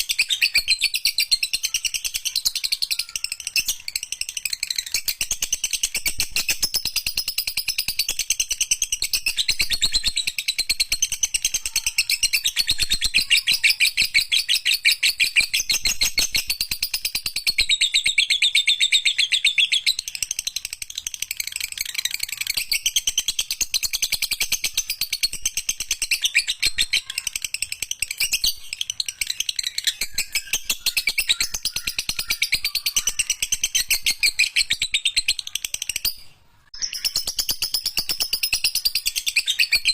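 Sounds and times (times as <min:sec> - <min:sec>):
lovebird chirping rapidly: 0:00.0 - 0:39.9.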